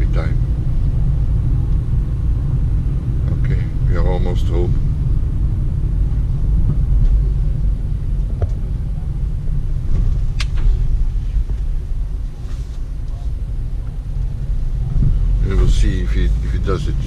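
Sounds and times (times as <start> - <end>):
van engine and road rumble: 0.0 - 17.0.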